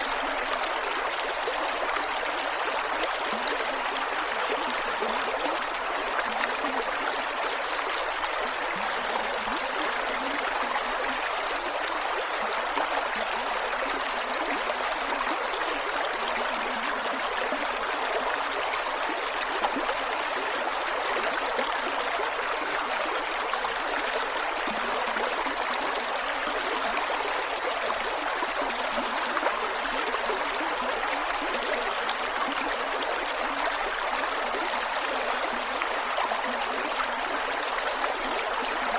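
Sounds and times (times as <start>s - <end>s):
creek water gurgling over rocks: 0.0s - 38.9s.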